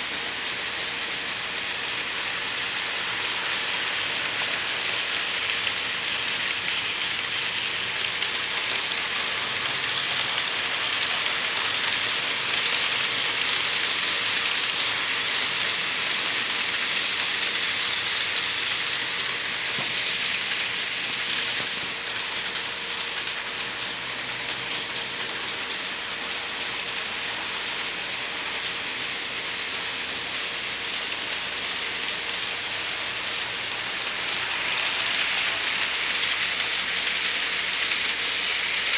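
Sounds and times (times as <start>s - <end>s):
model train wheels rolling: 0.0s - 38.9s.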